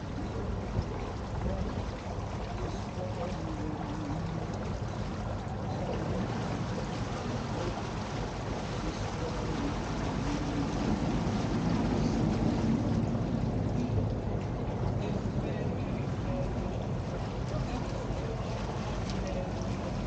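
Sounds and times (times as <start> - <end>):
boat motor running: 0.0 - 20.0
water churning: 0.0 - 20.0.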